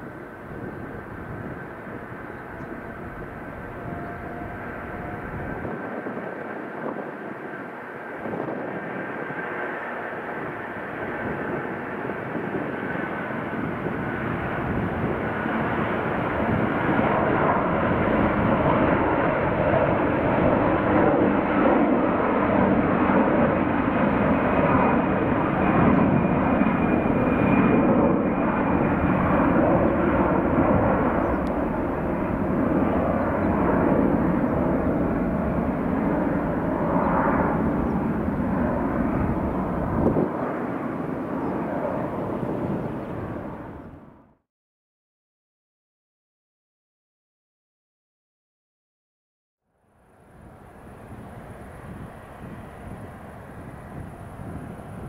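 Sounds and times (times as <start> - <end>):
jet engine noise: 0.0 - 44.4, 49.8 - 55.0.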